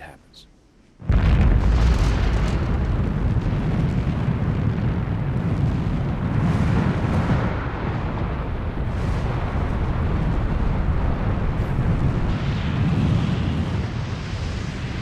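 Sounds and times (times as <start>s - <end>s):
crackling: 0.0s - 14.9s
deep volcanic rumble: 1.0s - 15.0s.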